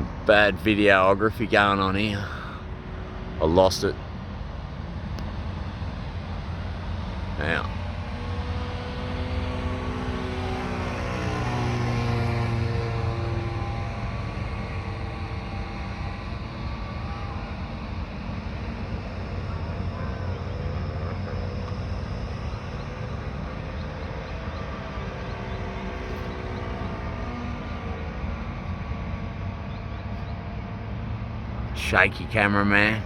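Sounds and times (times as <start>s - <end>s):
model plane engine droning: 0.0s - 33.0s.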